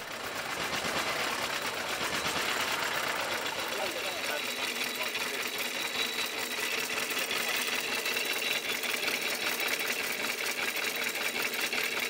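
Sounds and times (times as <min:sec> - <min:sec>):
machine clattering rapidly: 0:00.0 - 0:12.0.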